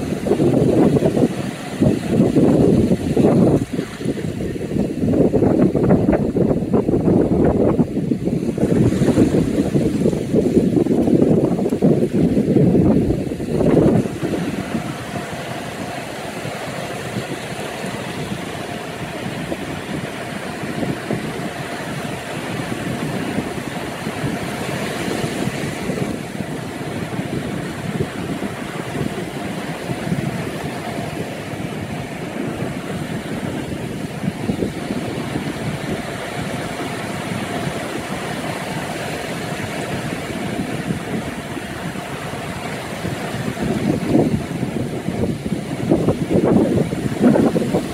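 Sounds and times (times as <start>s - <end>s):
hiss of foaming wash: 0.0s - 5.6s, 8.2s - 47.9s
small waves breaking on beach: 0.0s - 47.9s.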